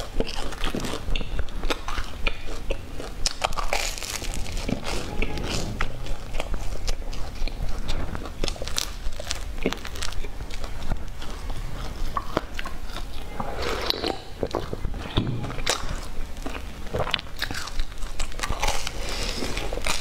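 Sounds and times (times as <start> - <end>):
chewing bread: 0.0 - 5.1, 6.0 - 20.0.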